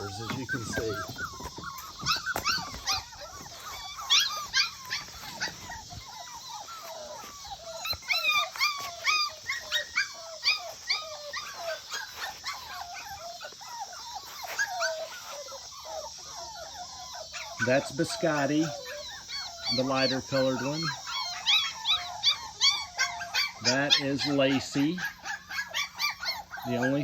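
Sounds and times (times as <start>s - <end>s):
puppies whining and yelping: 0.0s - 27.0s.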